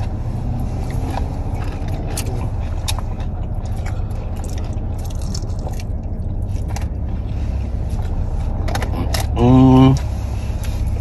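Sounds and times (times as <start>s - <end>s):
chewing crunchy food: 0.0s - 10.0s
low rumble inside car: 0.0s - 11.0s.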